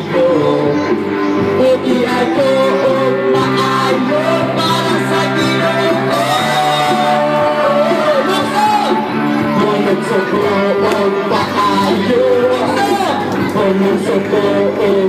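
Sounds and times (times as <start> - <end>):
live band with electric guitar: 0.0 - 15.0
man singing into microphone: 0.0 - 15.0.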